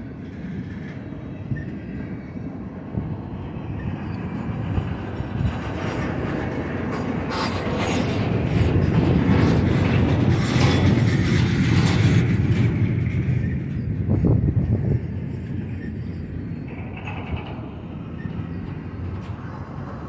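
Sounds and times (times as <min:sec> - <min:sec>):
freight train wheels rumbling: 0:00.0 - 0:20.0
train cars clanking and rattling: 0:00.0 - 0:20.0.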